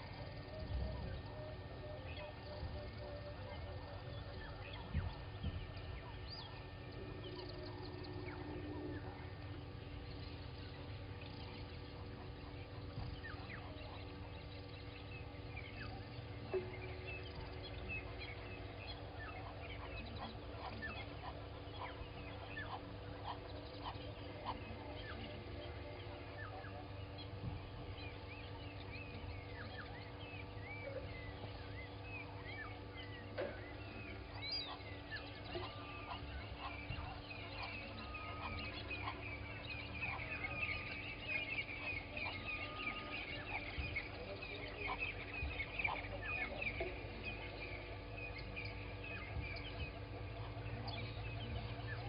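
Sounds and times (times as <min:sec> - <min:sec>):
birds chirping and whistling: 0:00.0 - 0:52.0
faint electrical hum: 0:00.0 - 0:52.0.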